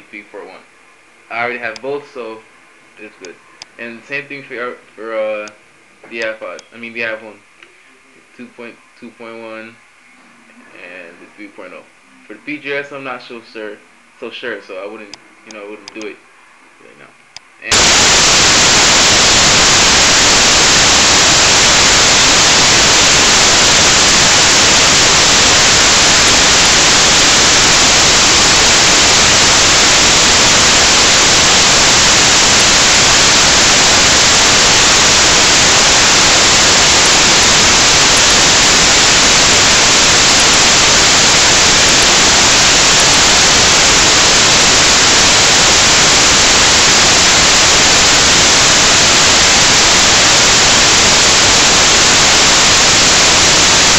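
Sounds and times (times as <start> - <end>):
loud static hiss: 0.0 - 53.9.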